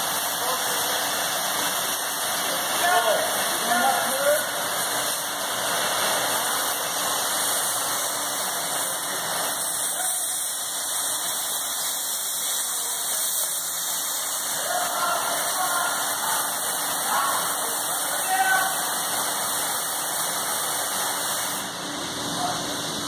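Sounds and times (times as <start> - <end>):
compressed air hissing: 0.0 - 21.8.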